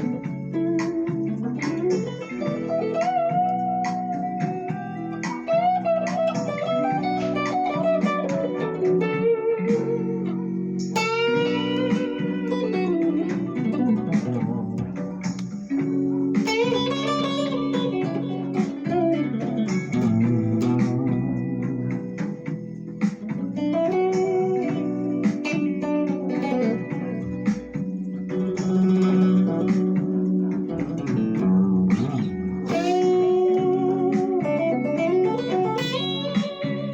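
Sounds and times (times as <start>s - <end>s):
plucked guitar melody: 0.0s - 36.9s.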